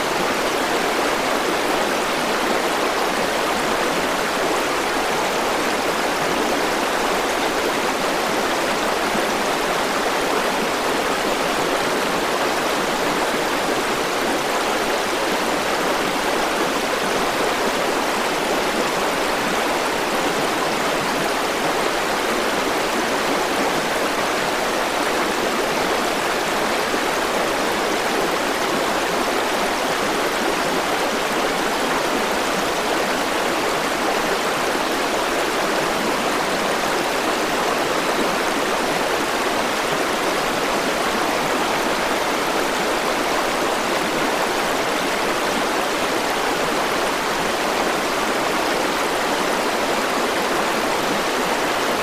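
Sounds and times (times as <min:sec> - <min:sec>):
river water rushing over stones: 0:00.0 - 0:52.0.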